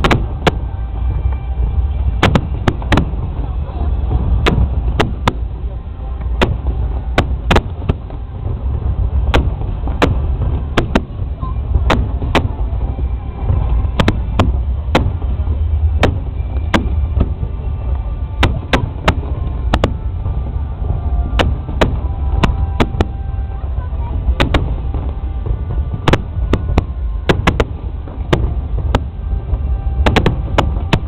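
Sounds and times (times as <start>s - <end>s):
fireworks bangs: 0.0s - 31.0s
low rumble: 0.0s - 31.0s.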